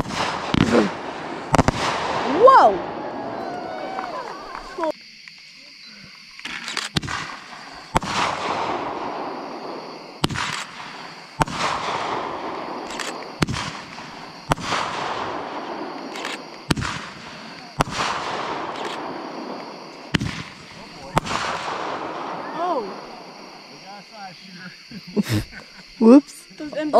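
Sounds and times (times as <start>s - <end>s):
fireworks bangs with rolling echo: 0.0s - 4.8s, 6.9s - 23.7s.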